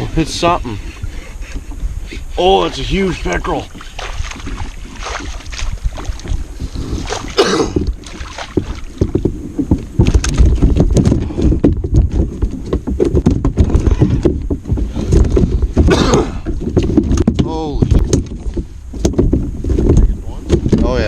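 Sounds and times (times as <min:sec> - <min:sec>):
knocking and clattering on a kayak: 0:00.0 - 0:02.0, 0:02.8 - 0:21.0
low handling rumble: 0:00.0 - 0:21.0
wind on microphone: 0:00.0 - 0:21.0.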